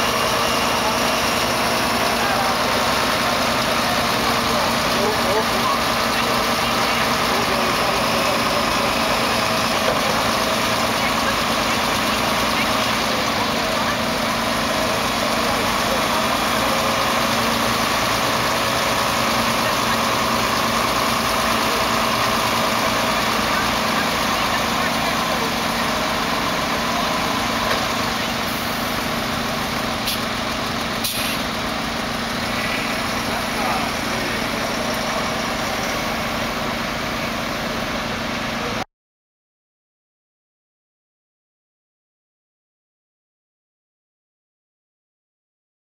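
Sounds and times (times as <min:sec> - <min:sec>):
truck diesel engine idling: 0:00.0 - 0:38.8.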